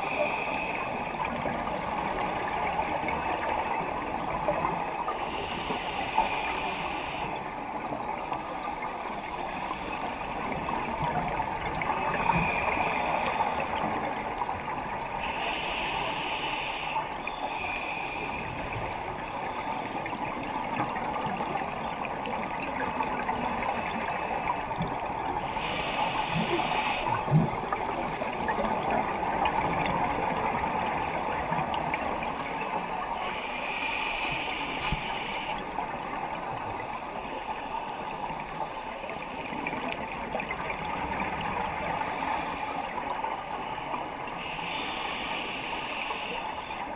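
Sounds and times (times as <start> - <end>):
scuba bubbles gurgling: 0.0 - 46.9
underwater crackling hiss: 0.0 - 46.9.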